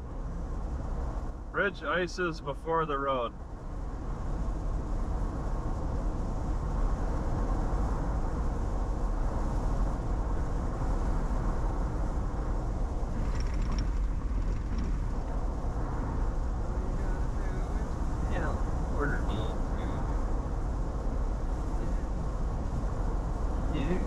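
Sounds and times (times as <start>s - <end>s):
car engine hum: 0.0s - 24.0s
road and tyre noise: 0.0s - 24.0s.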